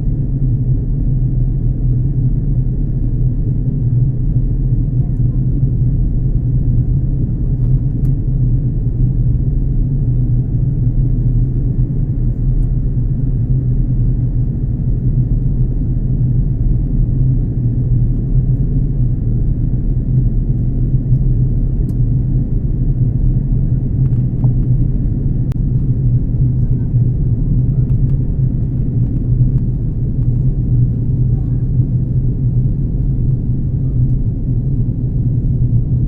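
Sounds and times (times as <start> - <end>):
jet airliner cabin rumble: 0.0 - 36.0.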